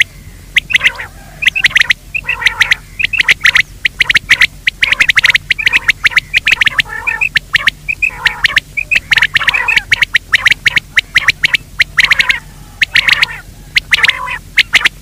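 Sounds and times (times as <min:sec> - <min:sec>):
harsh game bird lure call: 0:00.0 - 0:15.0.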